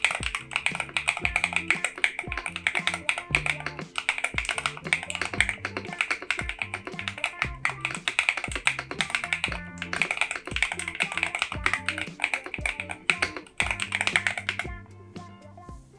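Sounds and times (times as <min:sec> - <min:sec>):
rapid typing on mechanical keyboard: 0:00.0 - 0:14.6
background music with bass line: 0:00.0 - 0:15.9.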